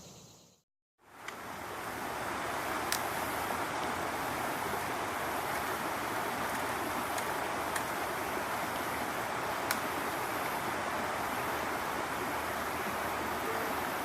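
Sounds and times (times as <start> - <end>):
floodwater rushing: 1.0 - 14.0.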